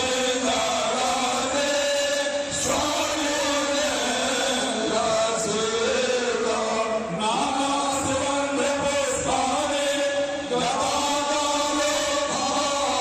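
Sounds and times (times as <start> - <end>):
person chanting in held notes: 0.0 - 13.0.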